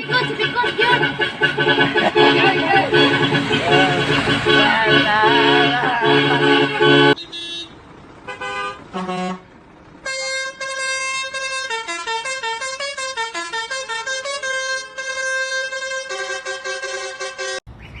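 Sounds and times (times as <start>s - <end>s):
musical horn playing a tune: 0.0s - 7.7s, 10.0s - 17.6s
short horn toots: 0.0s - 9.4s, 10.0s - 17.6s
truck horn chord: 0.0s - 17.6s.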